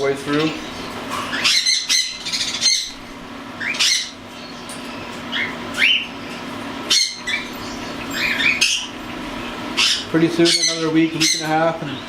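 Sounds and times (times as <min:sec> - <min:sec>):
steady low hum: 0:00.0 - 0:12.0
cockatiels chirping: 0:00.3 - 0:03.0, 0:03.6 - 0:06.2, 0:06.9 - 0:12.0.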